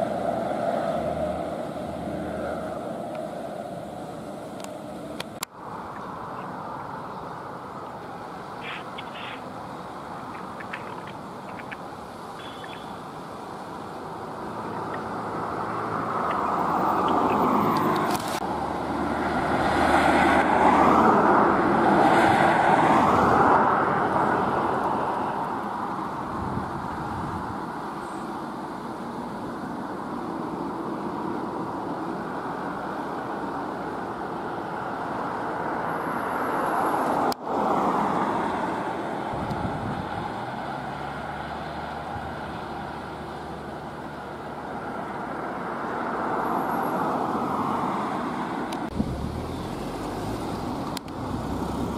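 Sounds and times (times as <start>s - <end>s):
vehicles passing by: 0.0s - 51.9s.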